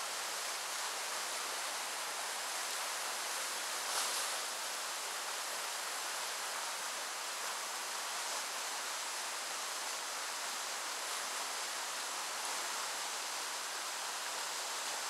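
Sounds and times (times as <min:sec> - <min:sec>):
rapids rushing over rocks: 0:00.0 - 0:15.0.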